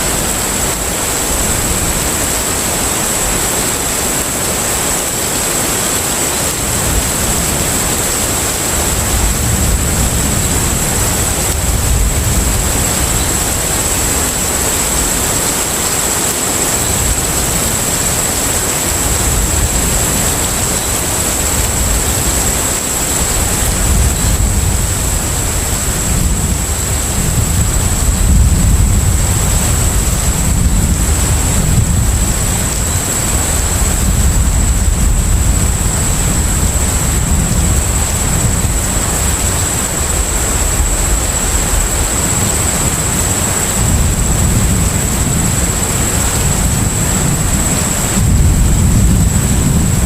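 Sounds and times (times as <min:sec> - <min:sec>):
sea water wash: 0:00.0 - 0:50.0.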